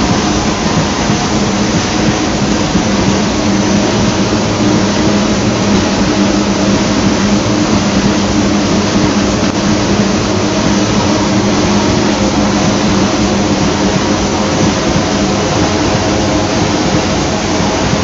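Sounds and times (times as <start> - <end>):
machine hum: 0.0 - 18.0
rushing noise: 0.0 - 18.0.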